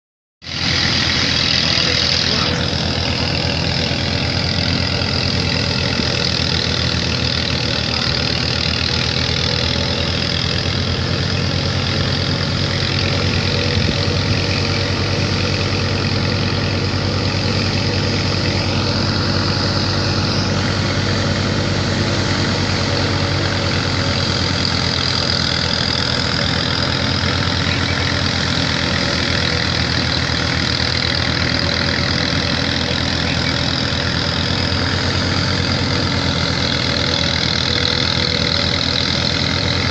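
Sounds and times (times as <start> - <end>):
threshing machine engine drone: 0.4 - 39.9.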